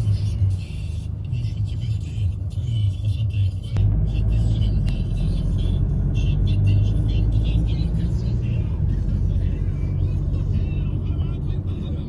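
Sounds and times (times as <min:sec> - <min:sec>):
vehicle rumbling on the move: 0:00.0 - 0:12.0.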